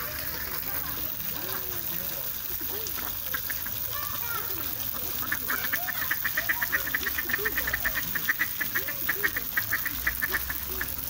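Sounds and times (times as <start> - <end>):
ducks calling: 0.0 - 11.0.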